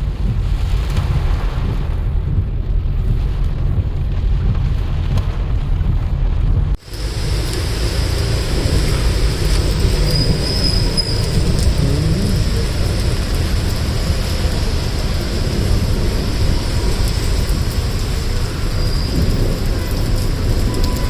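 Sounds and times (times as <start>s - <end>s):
deep rumble: 0.0s - 21.0s
rain falling: 0.0s - 21.0s.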